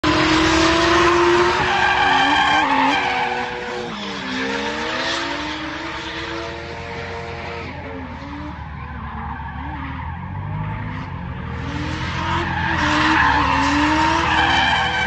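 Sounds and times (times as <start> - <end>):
car engines at high revs: 0.0 - 15.0
tyres skidding and squealing: 0.0 - 15.0.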